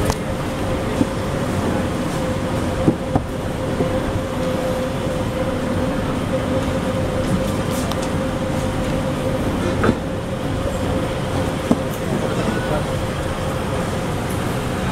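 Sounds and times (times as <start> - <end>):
machinery hum with whining tone: 0.0 - 14.9.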